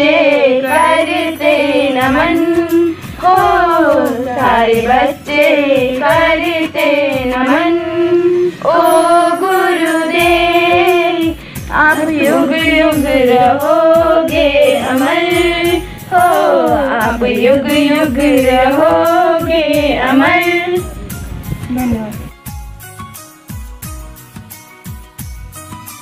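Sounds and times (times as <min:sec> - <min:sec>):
girls singing into a microphone: 0:00.0 - 0:21.0.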